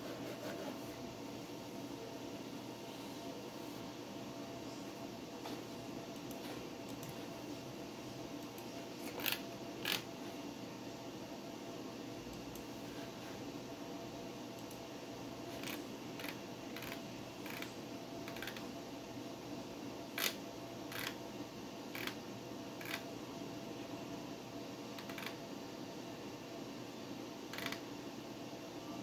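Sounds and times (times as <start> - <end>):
computer fan hum: 0.0 - 29.0.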